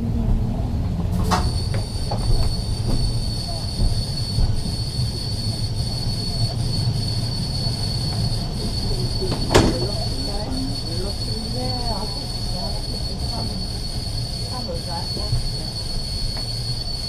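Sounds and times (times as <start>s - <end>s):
tram running rumble: 0.0s - 17.0s
tram wheels squealing on rails: 1.0s - 17.0s.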